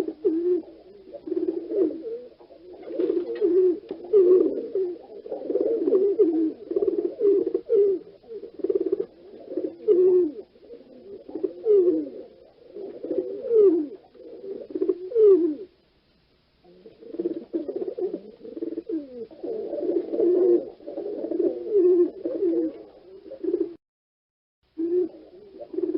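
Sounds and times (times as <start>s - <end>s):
pigeons cooing: 0.0s - 15.8s, 16.6s - 23.8s, 24.8s - 25.9s.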